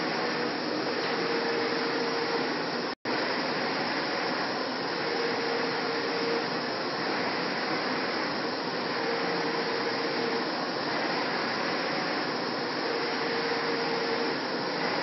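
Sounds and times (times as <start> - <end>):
printer mechanical whir: 0.0 - 15.0.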